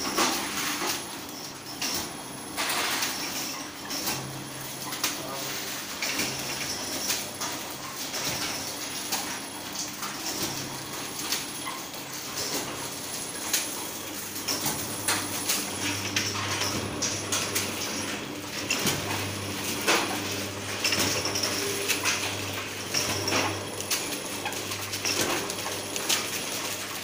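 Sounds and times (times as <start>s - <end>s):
sealing machine hum: 0.0s - 27.0s.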